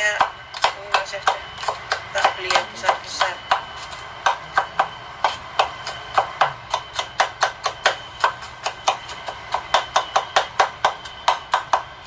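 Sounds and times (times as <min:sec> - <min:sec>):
knife chopping on cutting board: 0:00.2 - 0:11.9.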